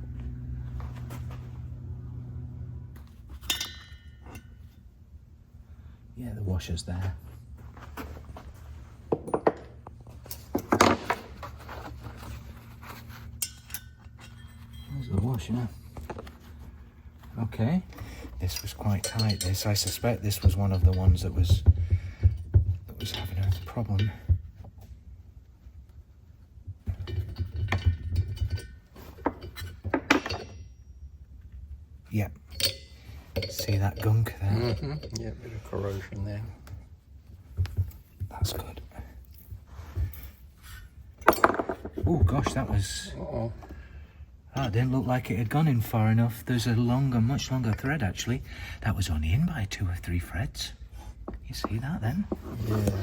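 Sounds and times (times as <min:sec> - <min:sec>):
hand tools and metal parts clattering: 0:00.0 - 0:05.0, 0:06.6 - 0:25.1, 0:25.7 - 0:53.0
steady low hum: 0:00.0 - 0:53.0.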